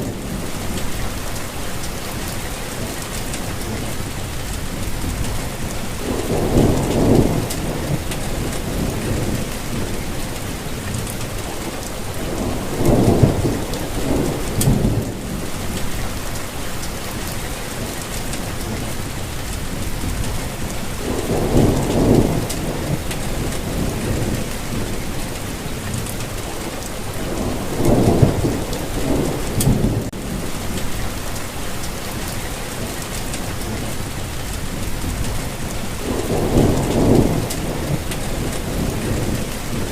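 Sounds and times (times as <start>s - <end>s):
steady rainfall: 0.0s - 39.9s
thunder rumbling: 0.0s - 39.9s.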